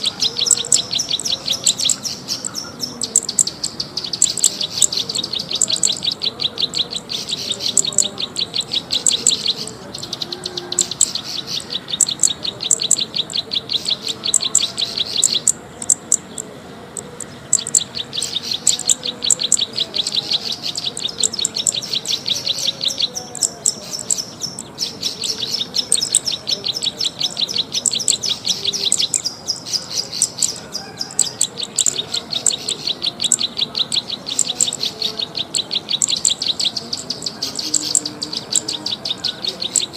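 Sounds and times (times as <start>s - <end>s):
songbird chirping rapidly: 0.0s - 39.9s.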